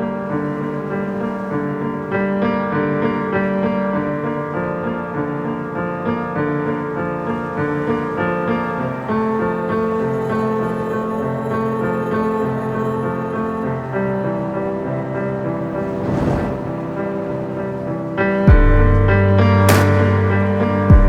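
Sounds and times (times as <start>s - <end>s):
piano melody: 0.0s - 16.0s, 16.6s - 21.0s.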